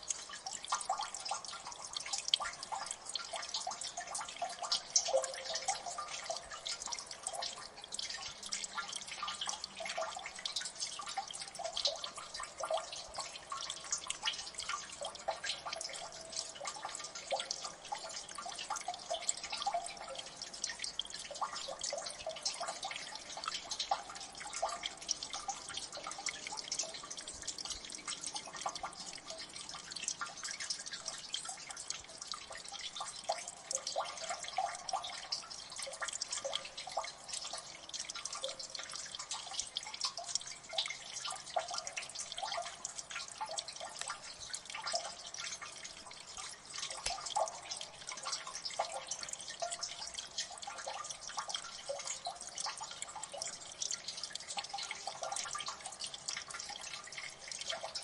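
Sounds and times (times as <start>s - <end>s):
water dripping: 0.0s - 58.0s.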